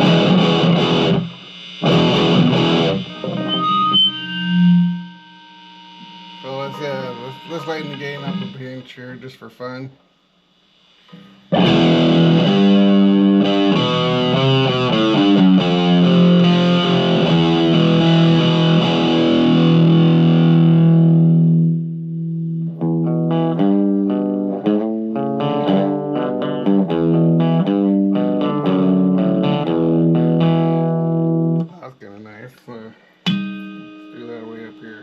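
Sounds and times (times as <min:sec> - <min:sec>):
distorted electric guitar: 0:00.0 - 0:31.9, 0:33.0 - 0:35.0.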